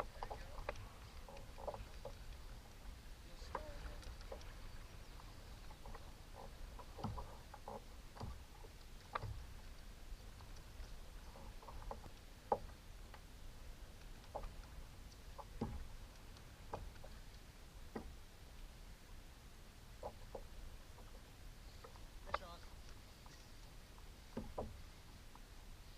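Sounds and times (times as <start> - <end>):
water washing against hull: 0.0 - 25.9.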